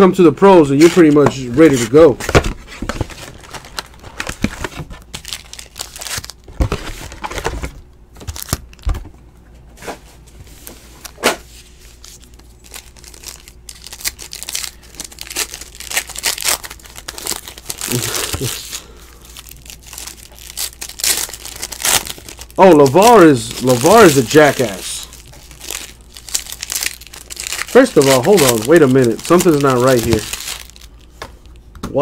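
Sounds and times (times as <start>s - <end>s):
foil wrappers crinkling and tearing: 0.6s - 9.0s, 10.6s - 31.6s.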